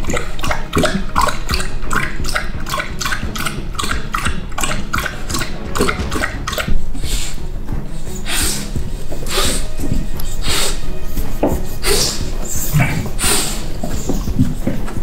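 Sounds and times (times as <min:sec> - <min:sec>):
dog lapping water from bowl: 0:00.0 - 0:15.0.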